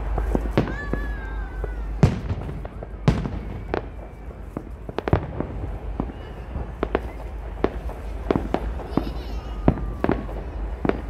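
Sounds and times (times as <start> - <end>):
firework cracks and pops: 0.0 - 11.0
fireworks booming: 0.0 - 11.0.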